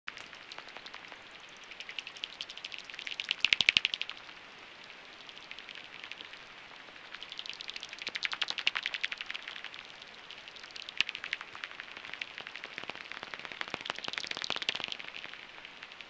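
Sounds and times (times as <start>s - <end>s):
bat echolocation clicks: 0.1s - 4.4s, 5.1s - 16.0s.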